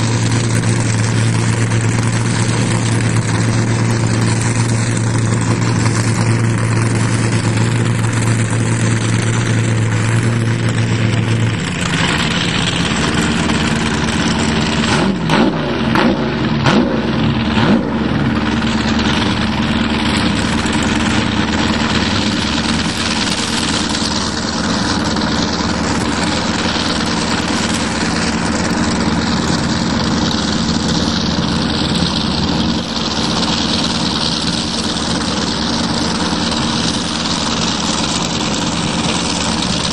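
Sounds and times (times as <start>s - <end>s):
boat engine running: 0.0s - 39.9s
water noise: 0.0s - 39.9s
wind: 0.0s - 39.9s.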